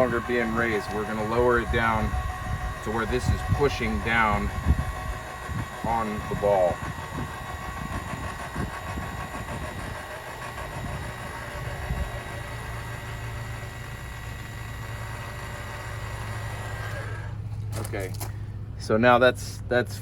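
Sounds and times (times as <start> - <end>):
powered jack motor running: 0.0 - 18.8
truck idling: 0.0 - 20.0.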